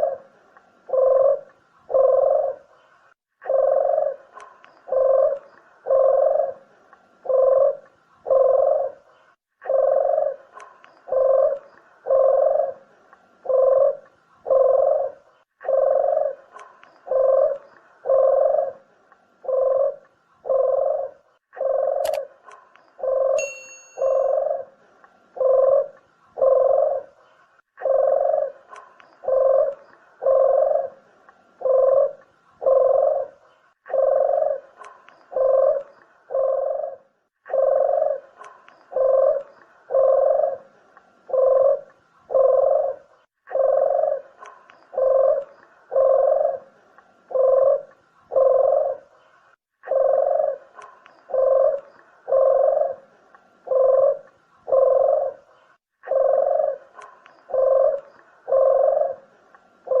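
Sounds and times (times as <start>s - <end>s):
dove cooing: 0.0s - 60.0s.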